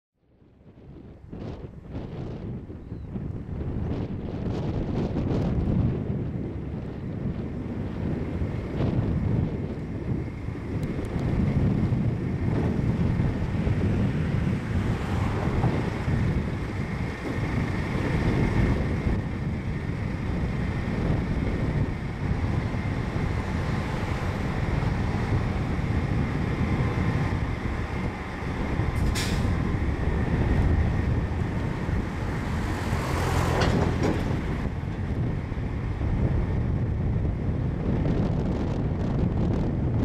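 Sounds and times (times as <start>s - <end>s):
turntable low rumble: 0.2s - 40.0s.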